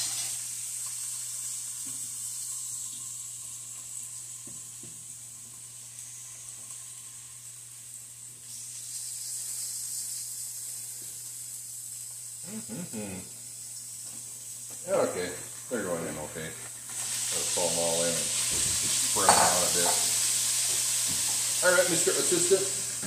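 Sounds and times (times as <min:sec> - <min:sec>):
meat sizzling in a frying pan: 0:00.0 - 0:12.6, 0:13.3 - 0:23.0.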